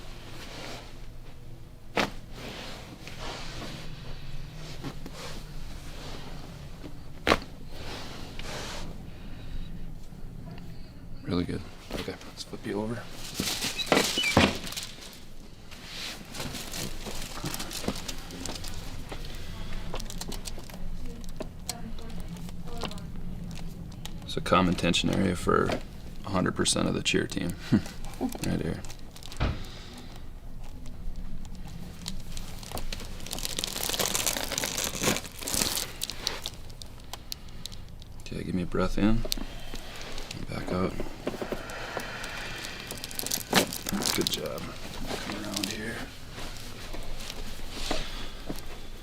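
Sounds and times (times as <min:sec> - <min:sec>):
rustling and crinkling: 0:00.0 - 0:09.0, 0:11.6 - 0:49.0.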